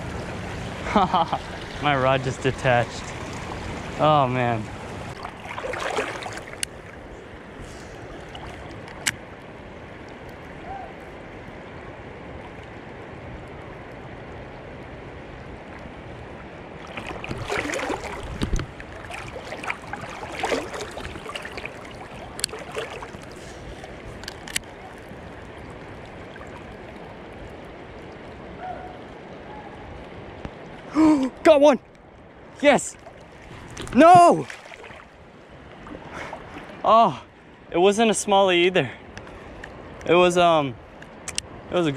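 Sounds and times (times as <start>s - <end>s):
river water running over rocks: 0.0s - 29.4s, 30.1s - 41.9s
water splashing and sloshing: 0.0s - 37.7s.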